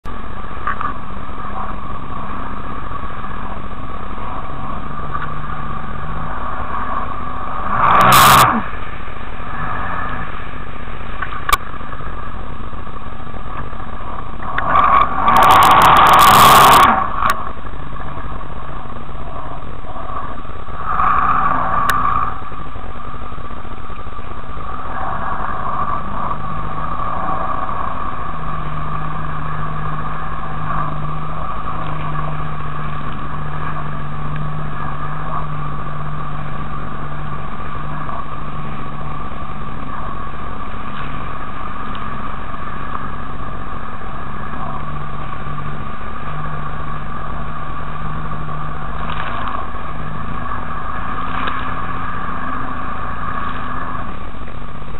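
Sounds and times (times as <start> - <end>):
jet ski engine running: 0.0 - 54.9
wind and water rushing: 0.0 - 54.9.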